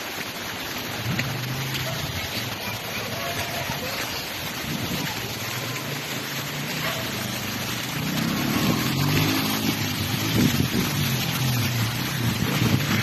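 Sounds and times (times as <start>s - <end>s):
rocky river rushing: 0.0s - 13.0s.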